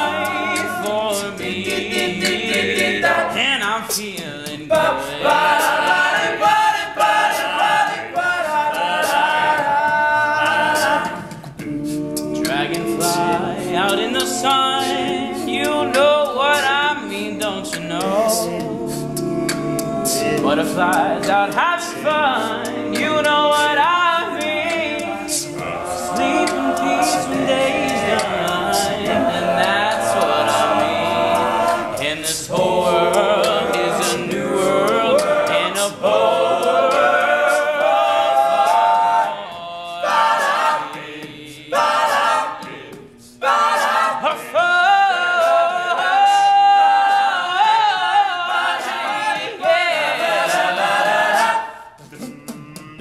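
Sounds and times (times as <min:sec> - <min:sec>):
male a cappella group singing: 0:00.0 - 0:53.0.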